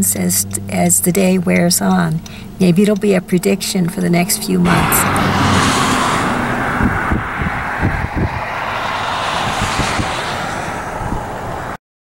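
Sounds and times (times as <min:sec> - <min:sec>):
car road and wind noise: 0:00.0 - 0:11.8.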